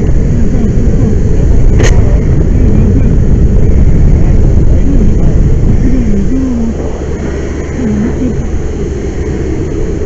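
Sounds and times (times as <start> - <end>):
fire roaring: 0.0 - 10.0.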